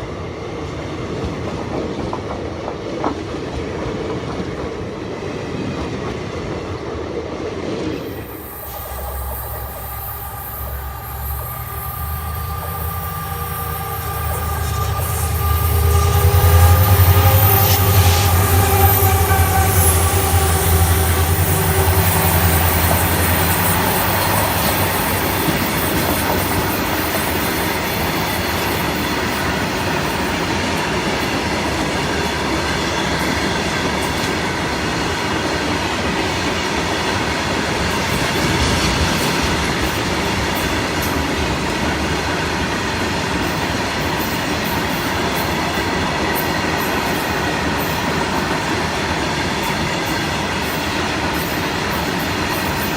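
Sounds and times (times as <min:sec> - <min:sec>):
locomotive drone: 0:00.0 - 0:52.9
train coaches rumbling past: 0:00.0 - 0:52.9.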